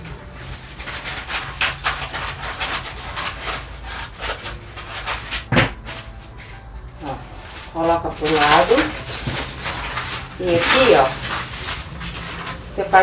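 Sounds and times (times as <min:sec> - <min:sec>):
scissors cutting paper: 0:00.0 - 0:06.1, 0:07.0 - 0:12.9
paper crackling: 0:00.0 - 0:13.0.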